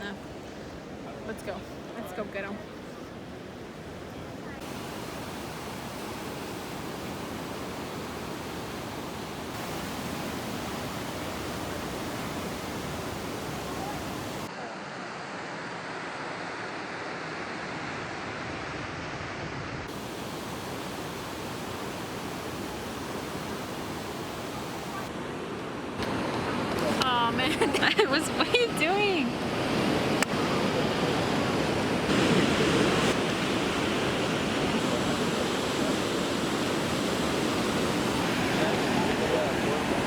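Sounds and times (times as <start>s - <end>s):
ocean surf washing on beach: 0.0s - 40.0s.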